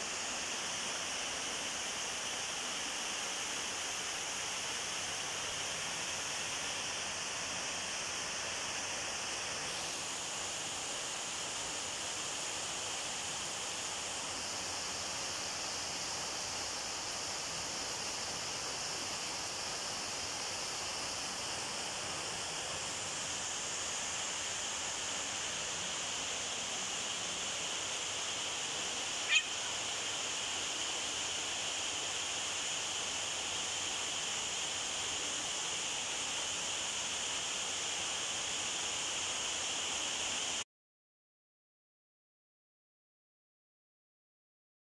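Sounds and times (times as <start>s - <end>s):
high-pitched night hiss: 0.0s - 40.6s.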